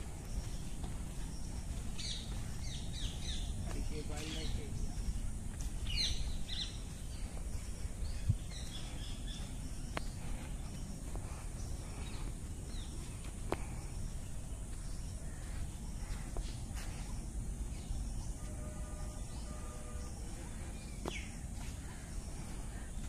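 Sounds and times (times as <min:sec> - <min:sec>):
wild birds chirping: 0:00.0 - 0:23.0.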